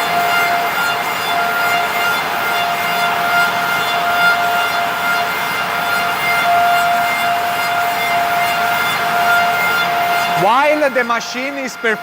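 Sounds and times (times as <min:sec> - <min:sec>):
lathe high-pitched whine: 0:00.0 - 0:12.0.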